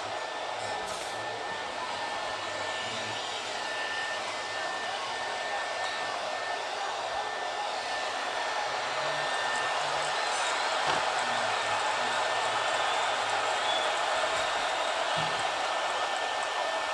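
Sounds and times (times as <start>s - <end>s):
audience applause: 0.0s - 16.9s.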